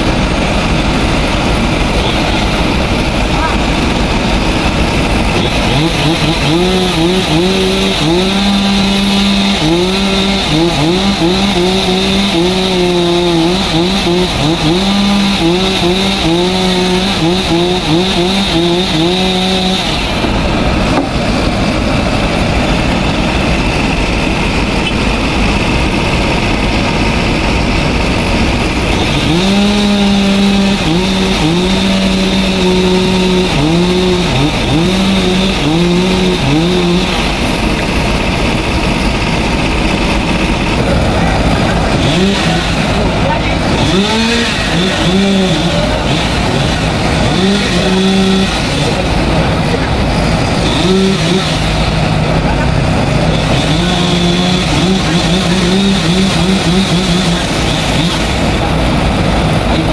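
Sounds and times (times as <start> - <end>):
chainsaw cutting wood: 0.0 - 59.9
rough noise: 0.0 - 59.9.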